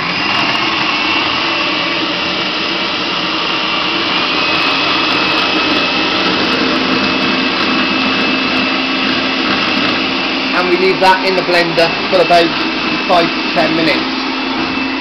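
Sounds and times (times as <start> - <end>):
food processor running: 0.0 - 15.0.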